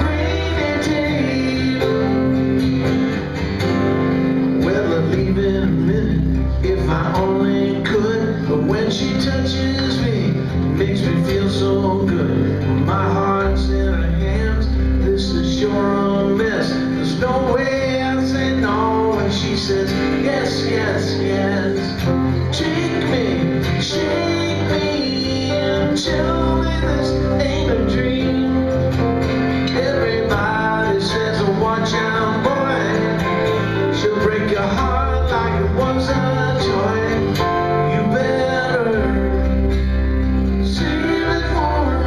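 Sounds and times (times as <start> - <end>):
acoustic guitar strummed: 0.0 - 42.0
electronic keyboard: 0.0 - 42.0.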